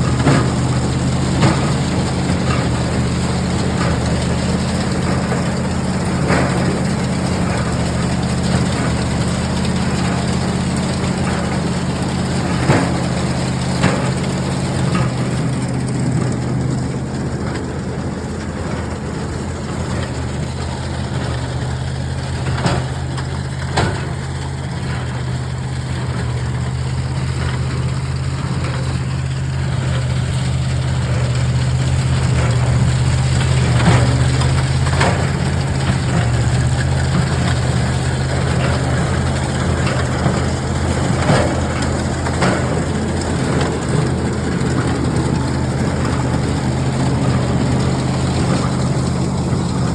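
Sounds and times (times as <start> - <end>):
engine running steadily: 0.0 - 49.9
hay baler working: 0.0 - 49.9.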